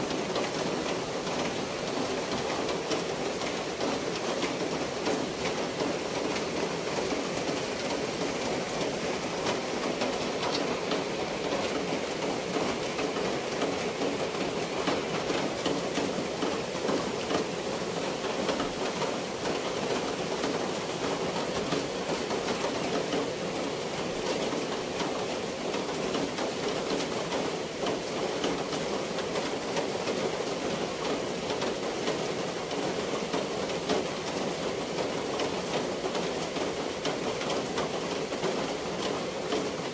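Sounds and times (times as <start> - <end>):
water patter and rush: 0.0 - 39.9.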